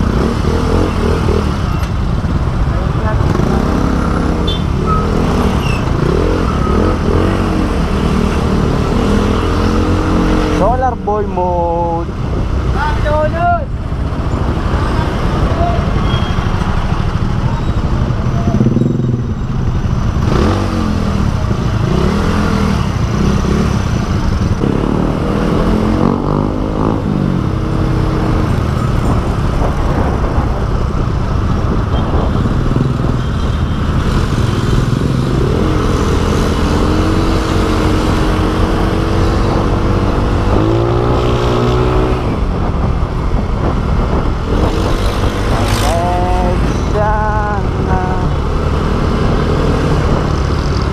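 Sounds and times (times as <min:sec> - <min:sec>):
road noise rush: 0:00.0 - 0:50.9
vehicle engine: 0:00.0 - 0:50.9.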